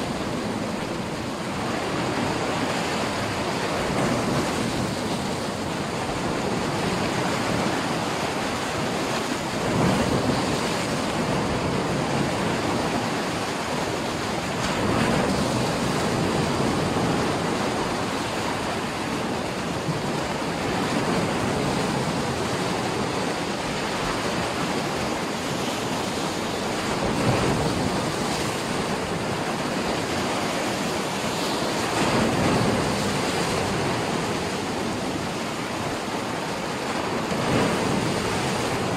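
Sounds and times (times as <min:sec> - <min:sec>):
waves washing onto shore: 0:00.0 - 0:38.9.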